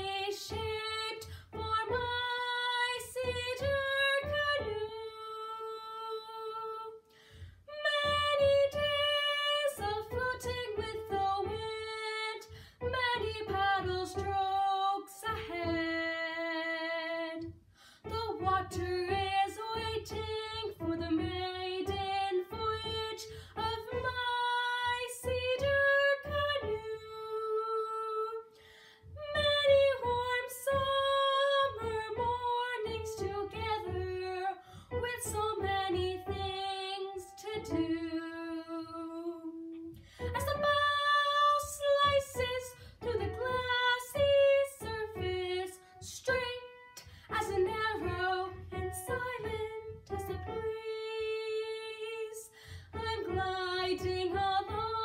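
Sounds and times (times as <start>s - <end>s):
girl singing: 0.0s - 7.0s, 7.7s - 28.5s, 29.2s - 55.0s.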